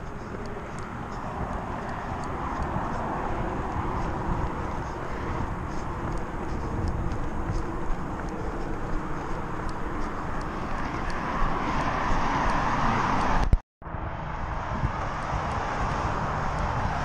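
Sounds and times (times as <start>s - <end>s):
faint running stride ticks: 0.0s - 13.6s, 14.8s - 17.0s
highway traffic: 0.0s - 17.0s
wind rumbling on microphone: 0.0s - 17.0s.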